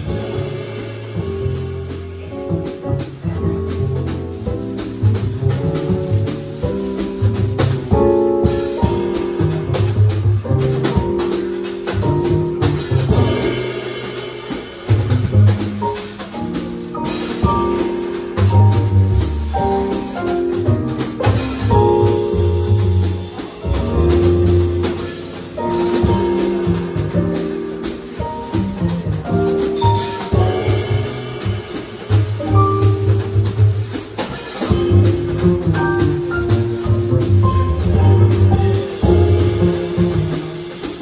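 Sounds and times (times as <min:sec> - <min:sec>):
drum kit cymbal strokes: 0:00.0 - 0:05.2, 0:05.8 - 0:41.0
acoustic piano: 0:00.0 - 0:41.0
upright bass: 0:00.0 - 0:41.0.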